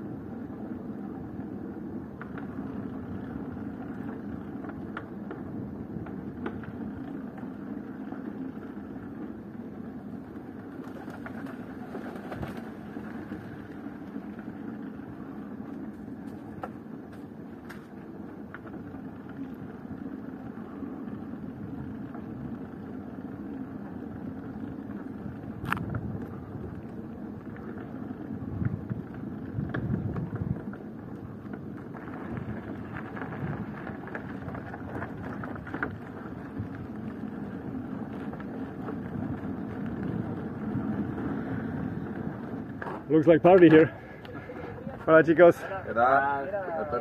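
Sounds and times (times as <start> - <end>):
outdoor background rumble: 0.0 - 47.0.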